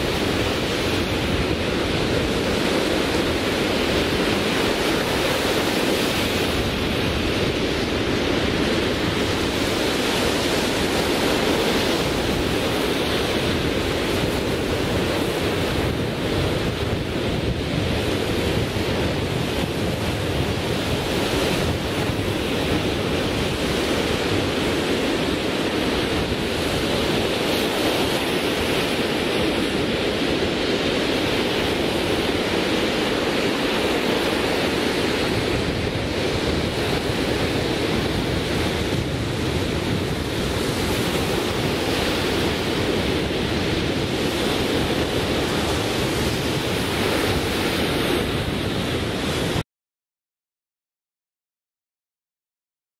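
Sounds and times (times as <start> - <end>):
surf breaking on sandy beach: 0.0 - 49.6.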